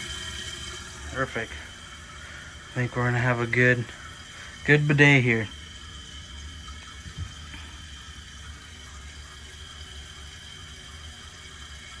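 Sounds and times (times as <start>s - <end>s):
water running into toilet: 0.0s - 12.0s.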